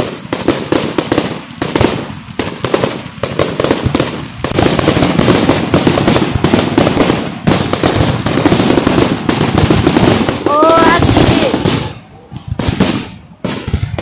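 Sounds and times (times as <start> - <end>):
fireworks bangs and crackle: 0.0 - 14.0.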